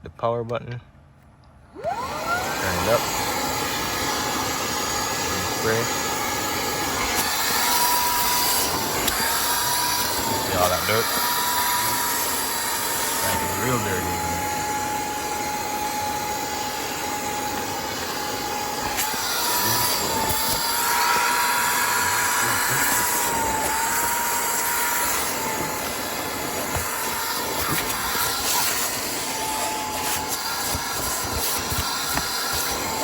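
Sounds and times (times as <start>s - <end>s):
spot cleaner suction whine: 1.7s - 33.0s.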